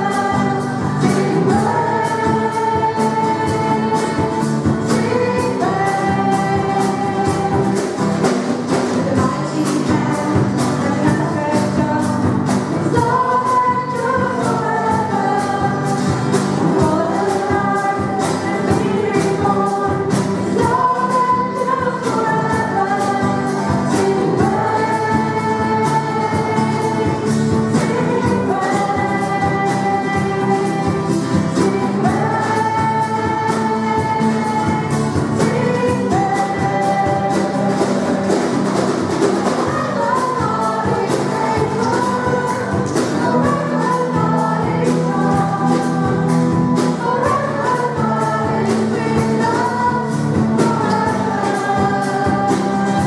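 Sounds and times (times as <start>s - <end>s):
voices singing together: 0.0s - 53.0s
worship band playing: 0.0s - 53.0s.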